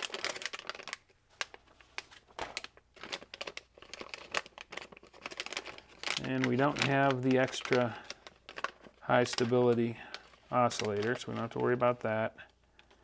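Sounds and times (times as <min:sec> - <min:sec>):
paper rustling: 0:00.0 - 0:13.0
plastic bag crinkling: 0:00.0 - 0:13.0.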